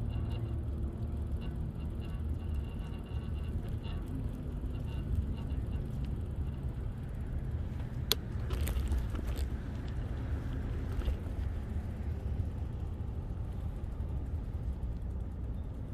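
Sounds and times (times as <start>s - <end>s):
sharp clicks and rattles: 0.0s - 15.9s.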